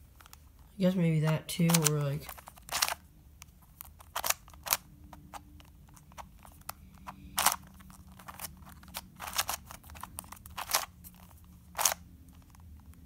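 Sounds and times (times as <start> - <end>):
plastic puzzle cube clicking: 1.6 - 13.0.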